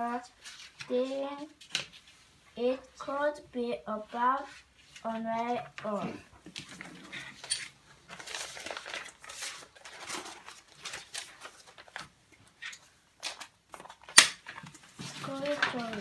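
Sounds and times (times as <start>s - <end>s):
paper pages rustling: 0.3s - 2.3s, 4.1s - 16.0s.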